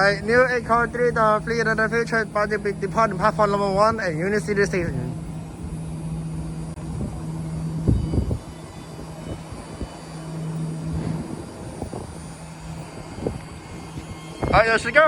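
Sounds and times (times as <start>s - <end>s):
electric train pulling out: 0.0s - 15.0s.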